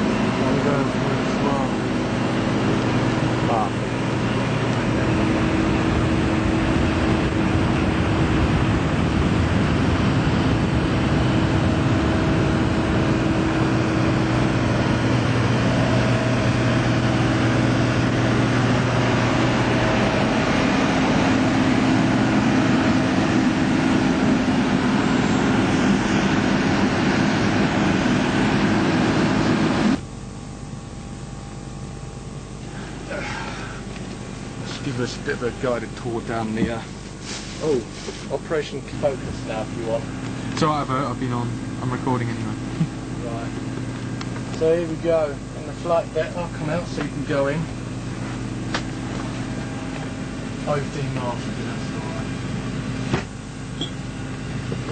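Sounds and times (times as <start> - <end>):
held hum tones: 0.0 - 54.9
loud engine drone: 0.0 - 54.9.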